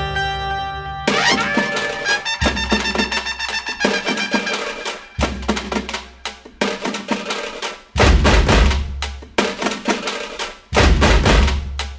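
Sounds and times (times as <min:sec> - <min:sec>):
drum beat: 0:01.1 - 0:11.9.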